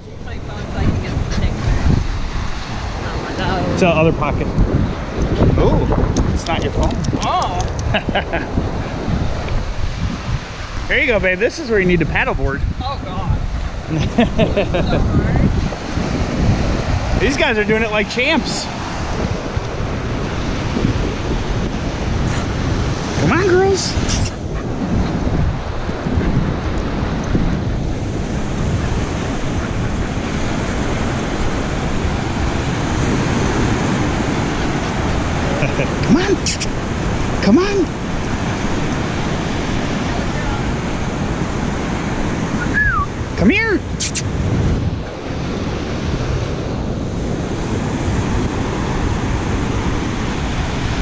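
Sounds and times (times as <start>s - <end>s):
ocean surf washing up: 0.0s - 51.0s
wind buffeting microphone: 0.0s - 51.0s.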